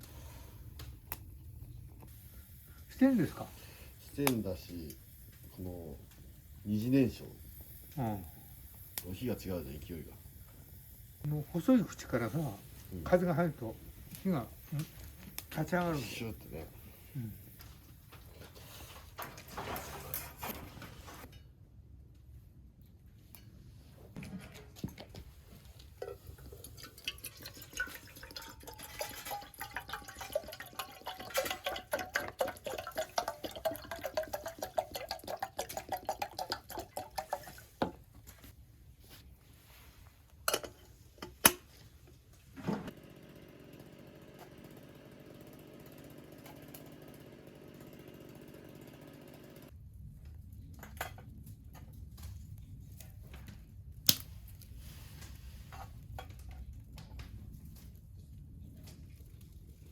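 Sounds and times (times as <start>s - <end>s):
wood crackling in a stove: 0.0s - 59.9s.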